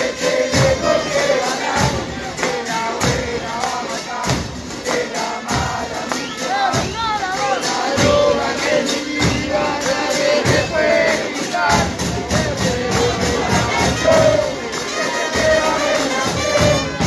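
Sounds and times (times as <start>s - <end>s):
crowd chanting: 0.0s - 17.0s
pounding drum beat: 0.0s - 17.0s.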